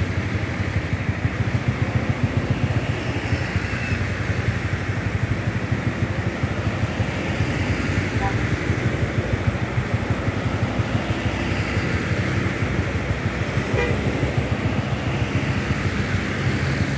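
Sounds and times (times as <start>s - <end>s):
bus diesel engines rumbling: 0.0s - 16.9s.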